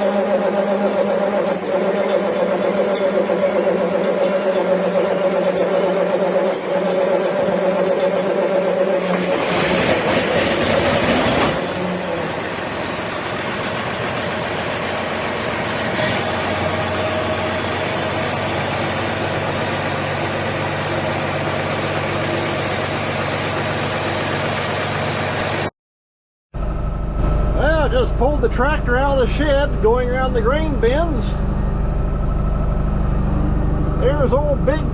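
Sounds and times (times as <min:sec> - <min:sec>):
diesel engine idling: 0:00.0 - 0:25.7, 0:26.6 - 0:34.9.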